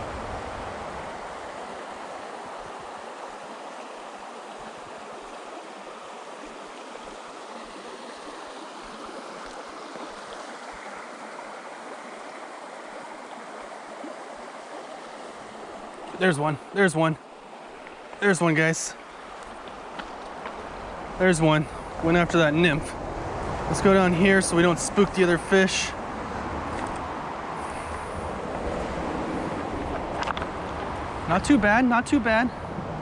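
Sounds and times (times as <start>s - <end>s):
creek running over rapids: 0.0s - 33.0s.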